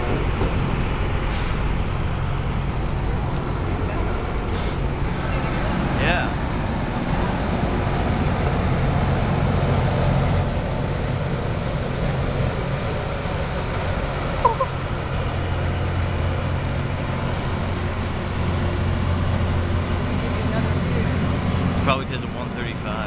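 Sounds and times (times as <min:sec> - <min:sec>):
diesel rail equipment rumbling: 0:00.0 - 0:23.0.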